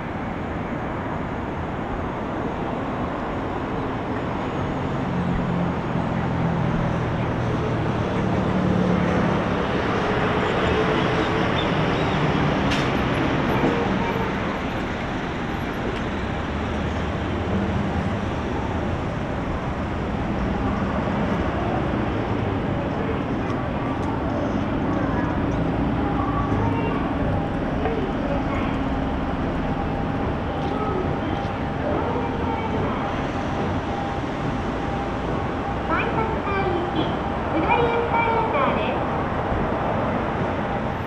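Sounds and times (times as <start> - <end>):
passing vehicle engine hum: 0.0 - 41.0
steady rush of traffic: 0.0 - 41.0.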